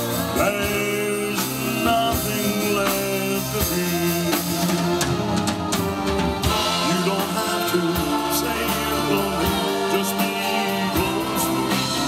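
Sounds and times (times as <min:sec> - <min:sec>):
drum kit: 0:00.0 - 0:12.0
guitar: 0:00.0 - 0:12.0
keyboard: 0:00.0 - 0:12.0
person singing: 0:00.0 - 0:12.0.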